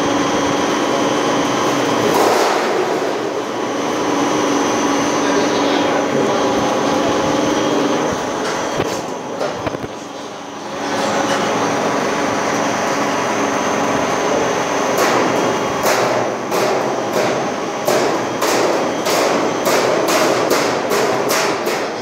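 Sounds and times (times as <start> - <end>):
roll forming machine running: 0.0 - 22.0.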